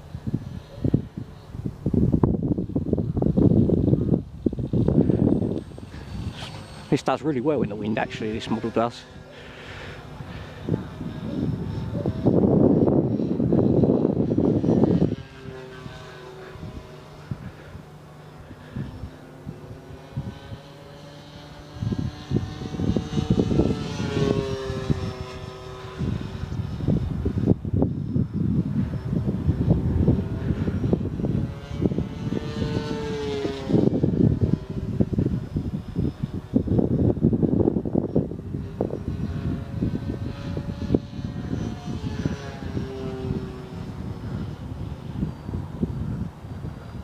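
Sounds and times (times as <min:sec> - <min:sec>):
model plane motor whining: 0:00.0 - 0:47.0
wind buffeting microphone: 0:00.0 - 0:47.0.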